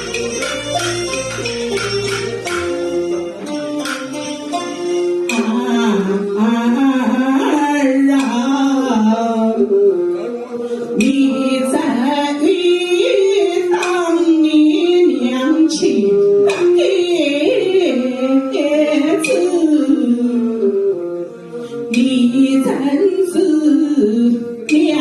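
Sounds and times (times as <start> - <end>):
opera music with sliding notes: 0.0 - 25.0.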